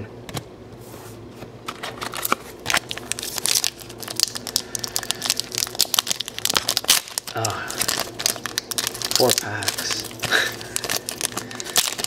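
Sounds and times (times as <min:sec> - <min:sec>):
foil wrappers crinkling: 0:01.7 - 0:12.0.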